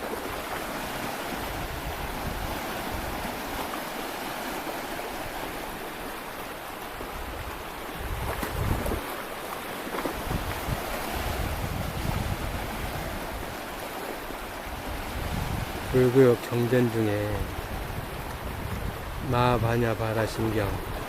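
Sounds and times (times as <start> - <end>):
wind buffeting microphone: 0.0 - 4.5, 5.1 - 9.4, 10.0 - 21.0
waves washing on rocky shore: 0.0 - 21.0.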